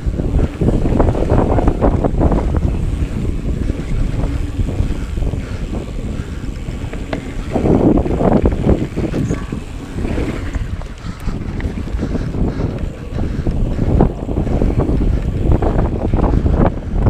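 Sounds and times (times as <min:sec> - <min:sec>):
bike rumbling and rattling: 0:00.0 - 0:17.0
wind buffeting microphone: 0:00.0 - 0:17.0.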